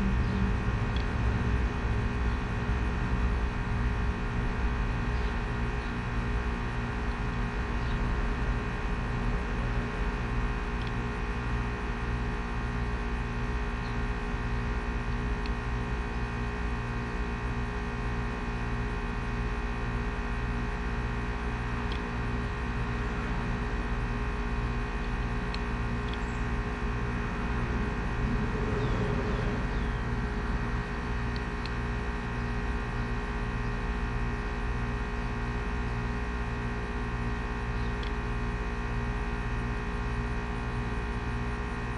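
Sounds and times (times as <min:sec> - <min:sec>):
air conditioner humming: 0:00.0 - 0:17.3, 0:19.6 - 0:41.9.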